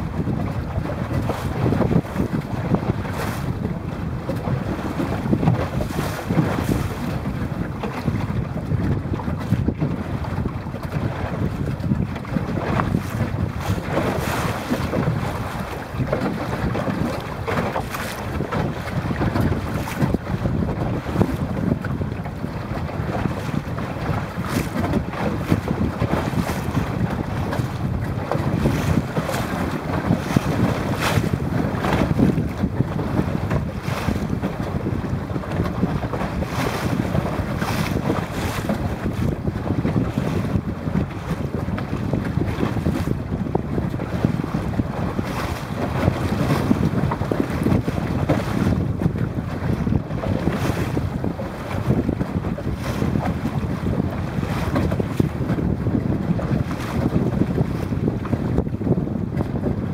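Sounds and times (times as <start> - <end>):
choppy water splashing: 0.0 - 59.9
wind buffeting microphone: 0.0 - 59.9.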